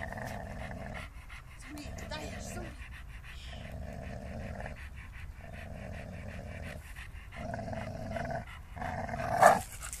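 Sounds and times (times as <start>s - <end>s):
dogs panting: 0.0s - 10.0s.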